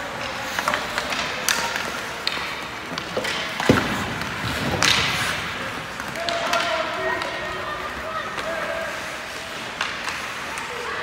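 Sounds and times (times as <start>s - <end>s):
hockey sticks clacking on puck: 0.0s - 11.0s
skate blades scraping ice: 0.0s - 11.0s.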